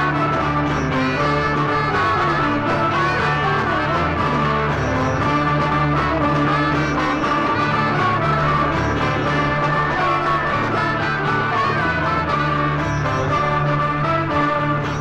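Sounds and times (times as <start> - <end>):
brass music: 0.0 - 15.0.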